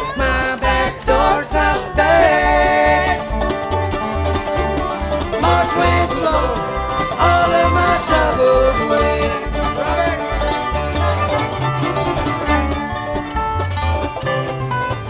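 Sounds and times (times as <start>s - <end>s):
banjo: 0.0s - 15.0s
fiddle sliding between notes: 0.0s - 15.0s
guitar: 0.0s - 15.0s.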